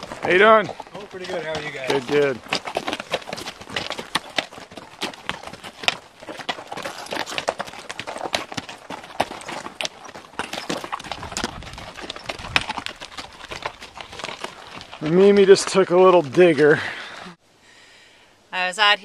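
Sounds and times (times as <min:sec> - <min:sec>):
hooves clopping on rocky trail: 0:00.0 - 0:17.4.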